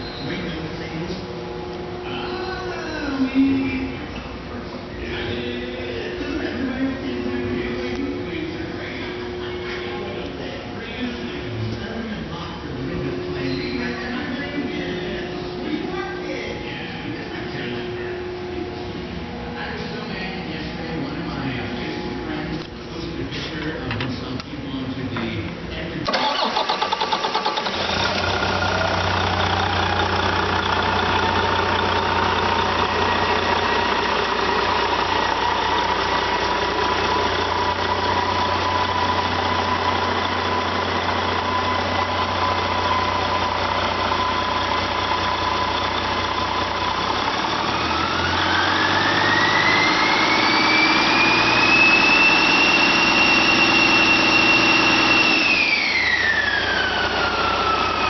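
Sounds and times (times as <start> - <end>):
diesel engine idling with whine: 0.0 - 58.0.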